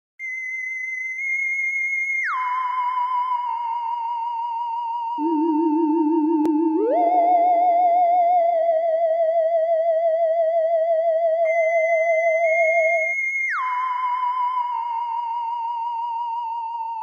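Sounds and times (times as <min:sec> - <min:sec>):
warbling electronic tones: 0:02.3 - 0:17.0.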